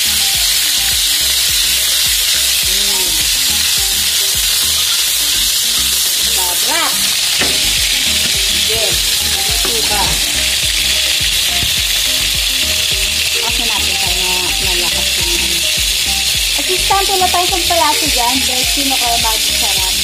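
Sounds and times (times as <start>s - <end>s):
food frying in hot oil: 0.0s - 20.0s.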